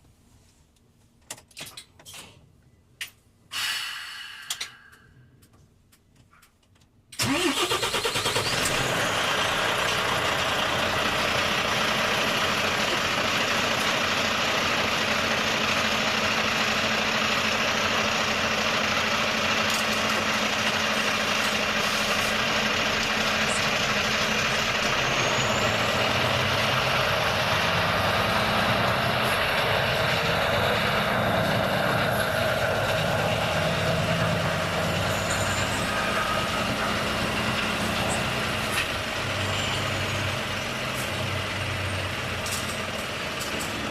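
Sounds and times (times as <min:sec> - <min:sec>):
road and tyre noise: 0:03.5 - 0:43.9
truck engine drone: 0:07.2 - 0:43.9.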